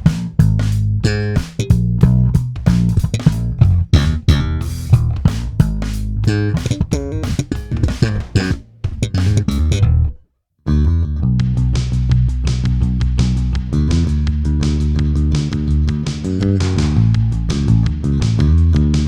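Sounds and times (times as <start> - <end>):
electric bass plucked notes: 0.0 - 19.0.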